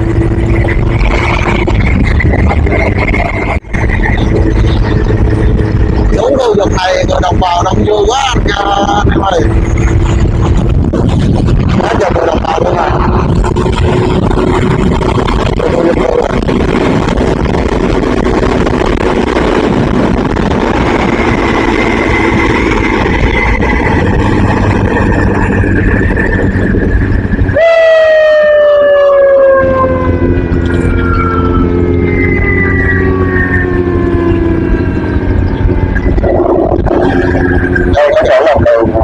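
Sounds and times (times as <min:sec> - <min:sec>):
siren winding down: 0:00.0 - 0:39.0
vehicle engine and road noise: 0:00.0 - 0:39.0.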